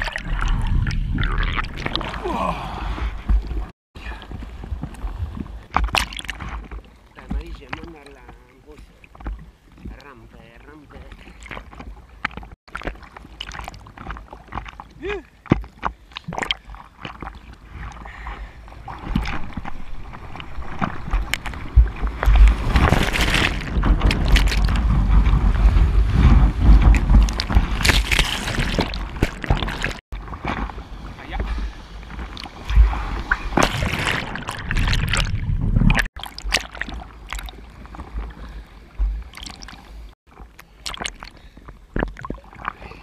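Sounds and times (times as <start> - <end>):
water sloshing against camera: 0.0 - 43.0.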